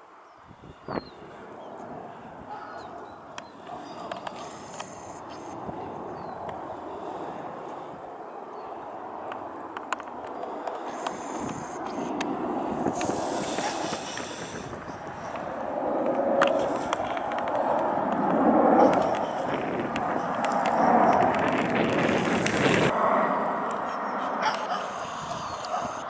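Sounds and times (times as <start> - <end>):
jet engine rumble overhead: 0.0 - 26.0.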